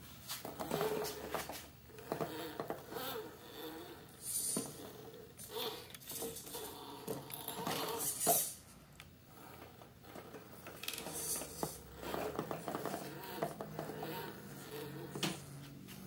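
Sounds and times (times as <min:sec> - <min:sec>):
toy car motor whirring: 0:00.4 - 0:08.6, 0:09.3 - 0:15.4.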